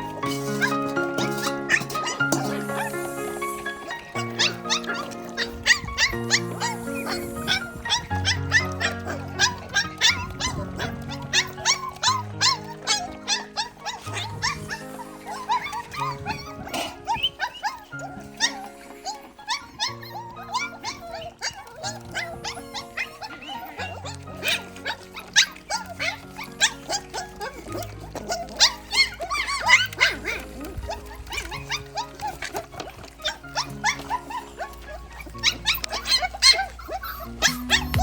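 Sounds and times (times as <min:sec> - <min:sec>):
background music: 0:00.0 - 0:38.0
dogs crunching bones: 0:00.0 - 0:38.0.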